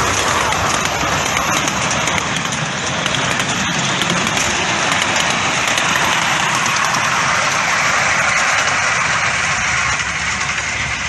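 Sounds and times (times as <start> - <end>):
miniature train wheels rushing on track: 0.0 - 11.0.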